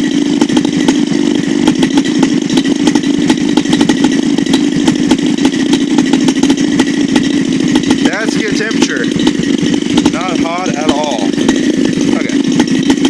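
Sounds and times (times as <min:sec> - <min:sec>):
two-stroke engine running steadily: 0:00.0 - 0:13.0.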